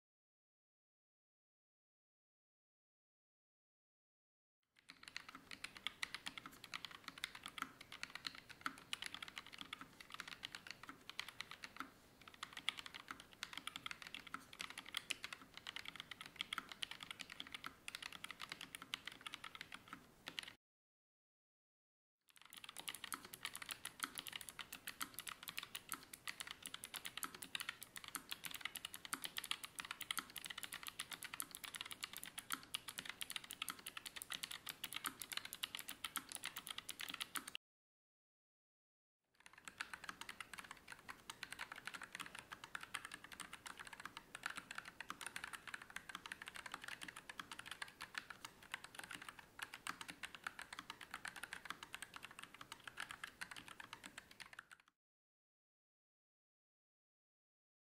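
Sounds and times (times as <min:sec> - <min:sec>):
fast typing on mechanical keyboard: 0:04.9 - 0:20.6, 0:22.3 - 0:37.6, 0:39.4 - 0:54.9.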